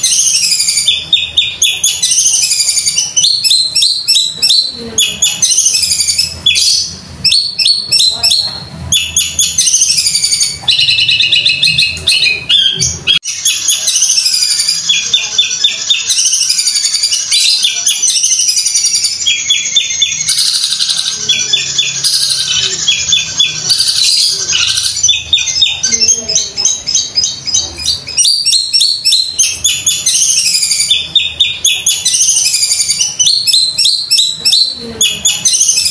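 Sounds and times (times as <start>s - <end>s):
rapid rattling bird notes: 0.0s - 35.9s
shrike singing: 0.0s - 35.9s.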